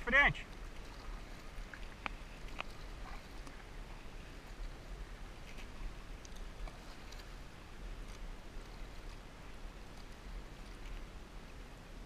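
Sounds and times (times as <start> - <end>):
kayak paddle strokes: 0.0 - 12.0
water dripping and splashing: 0.5 - 11.1.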